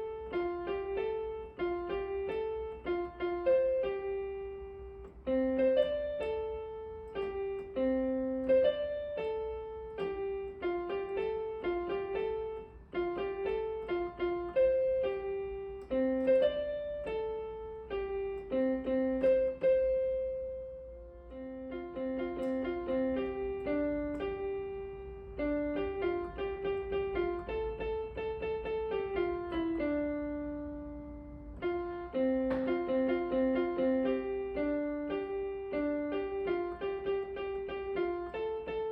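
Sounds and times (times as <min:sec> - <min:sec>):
gentle piano music: 0:00.0 - 0:38.9.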